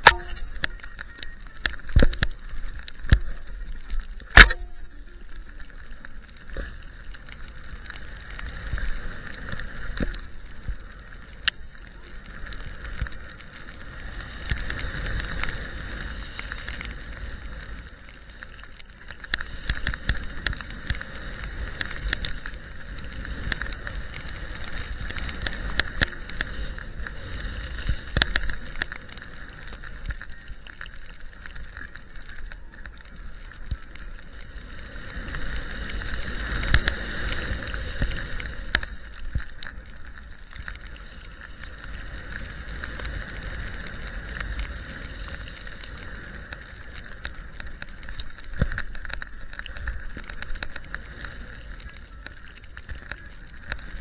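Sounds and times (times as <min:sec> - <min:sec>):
skis hissing through powder snow: 0:00.0 - 0:54.0
wind rumbling on microphone: 0:00.0 - 0:54.0.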